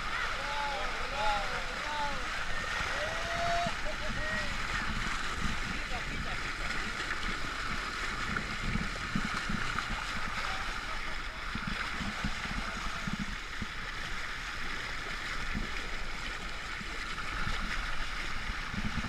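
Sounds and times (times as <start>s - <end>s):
water rushing along a hull: 0.0s - 19.0s.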